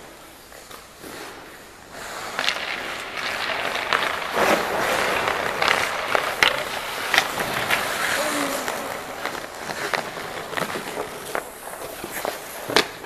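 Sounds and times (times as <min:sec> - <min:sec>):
hockey sticks and puck clacking: 0:00.0 - 0:13.0
ice skate blades scraping ice: 0:00.2 - 0:13.0.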